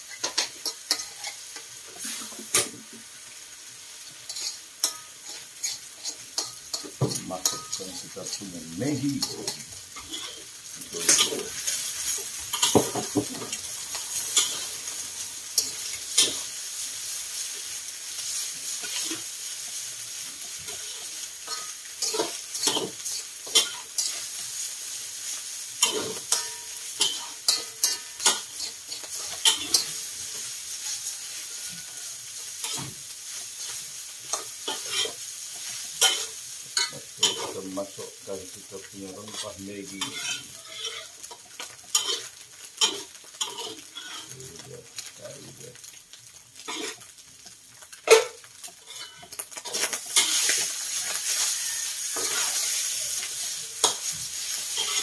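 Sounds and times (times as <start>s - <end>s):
metal utensils scraping woks: 0.0s - 2.9s, 4.1s - 45.8s, 46.6s - 47.2s, 48.0s - 55.0s
noodles sizzling in woks: 0.0s - 55.0s.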